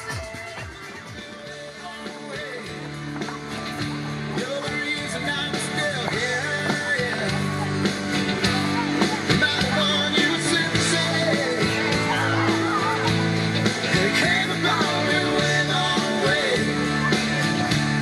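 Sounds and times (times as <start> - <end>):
country dance song: 0.0 - 18.0.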